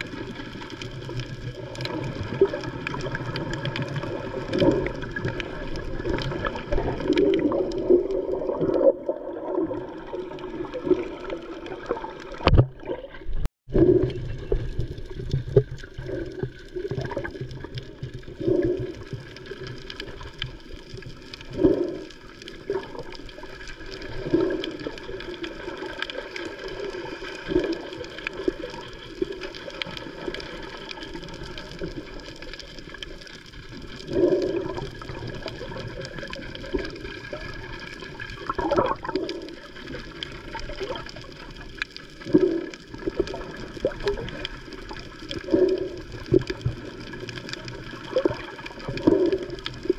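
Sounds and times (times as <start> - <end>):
muffled underwater rushing and bubbling: 0.0 - 49.9.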